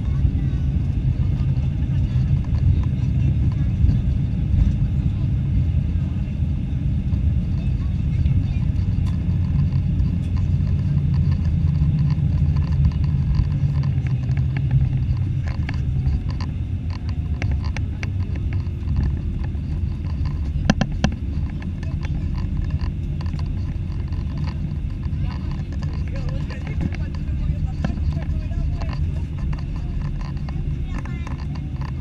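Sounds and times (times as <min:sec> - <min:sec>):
aircraft engines rumbling: 0:00.0 - 0:32.0
wheels rolling on taxiway: 0:00.0 - 0:32.0.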